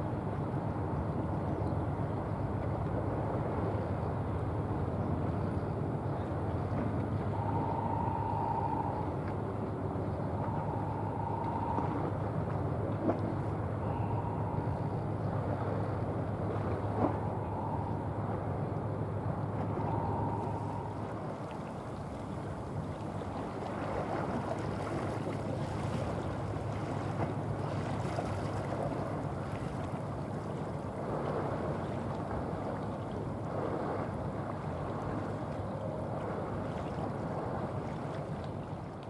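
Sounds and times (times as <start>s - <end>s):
low hum of a passing ship: 0.0s - 39.0s
wind buffeting microphone: 0.2s - 39.0s
waves washing: 6.5s - 39.0s.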